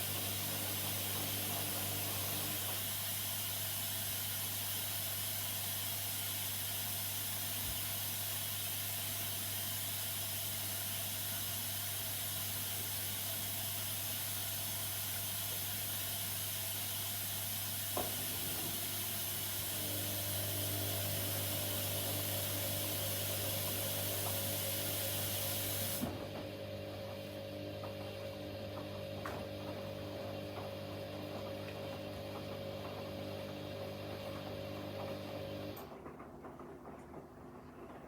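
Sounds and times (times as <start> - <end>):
pump motor hum: 0.0 - 36.2.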